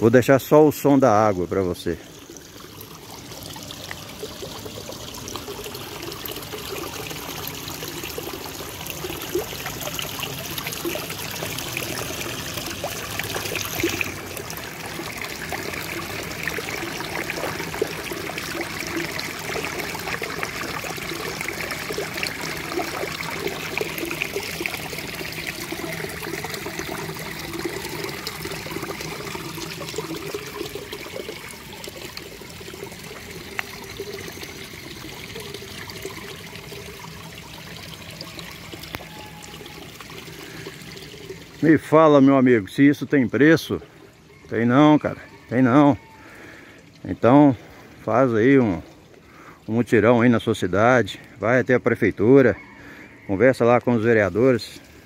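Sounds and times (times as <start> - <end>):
water trickling over rocks: 0.0 - 55.0.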